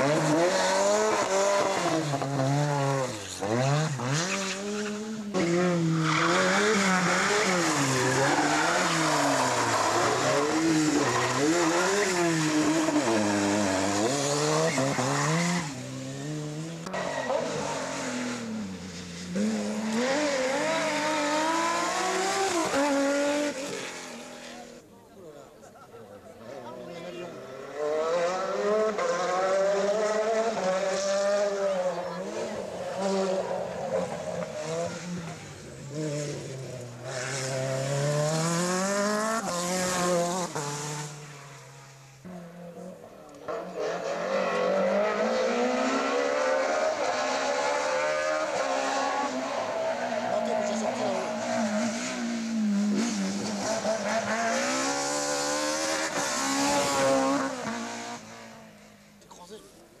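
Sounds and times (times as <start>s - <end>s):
rally car engine at full throttle: 0.0s - 24.9s, 25.7s - 60.0s.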